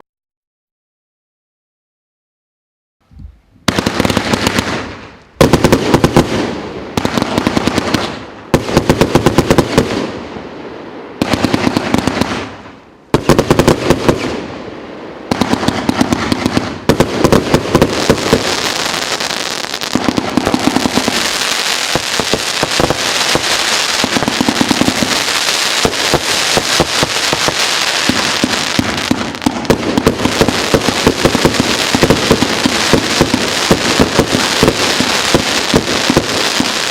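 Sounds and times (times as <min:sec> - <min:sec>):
fireworks firing sharp reports: 0:03.7 - 0:10.4, 0:11.1 - 0:36.9.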